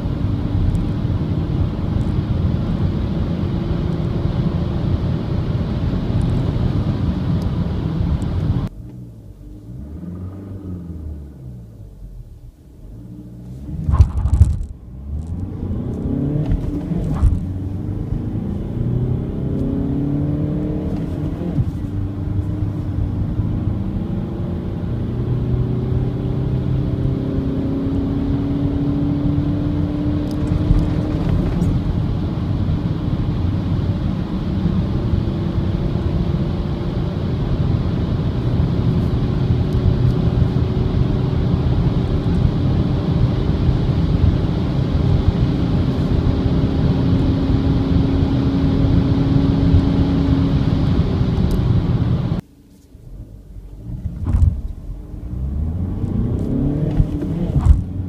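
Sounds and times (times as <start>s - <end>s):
diesel engine accelerating: 0.0s - 52.4s, 53.0s - 58.0s
road and wind noise: 0.0s - 58.0s.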